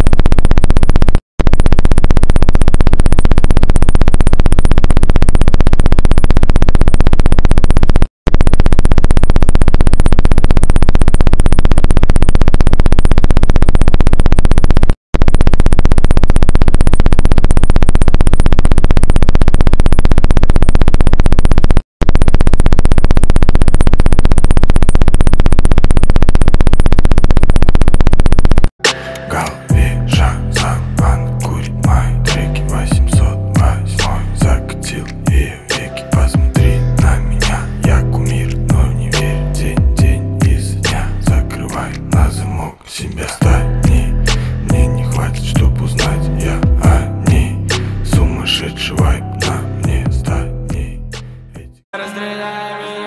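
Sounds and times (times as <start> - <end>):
loud electronic buzz: 0.0 - 53.0.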